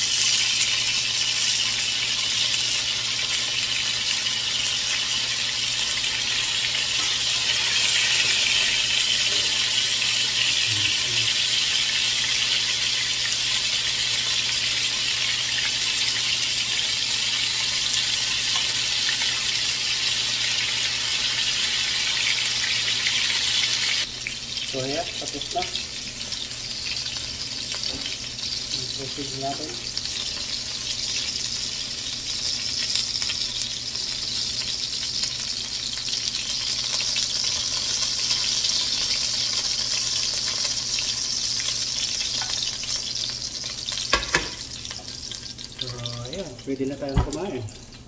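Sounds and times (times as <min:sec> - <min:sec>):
sausages sizzling in a frying pan: 0:00.0 - 0:48.0.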